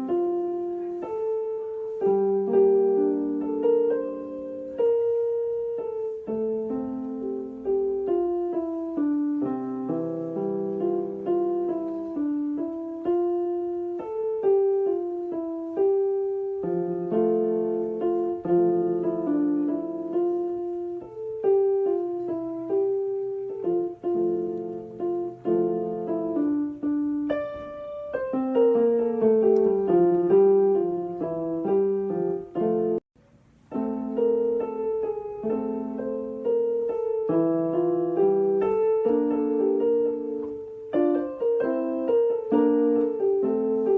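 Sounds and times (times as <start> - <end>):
gentle piano melody: 0.0 - 43.9.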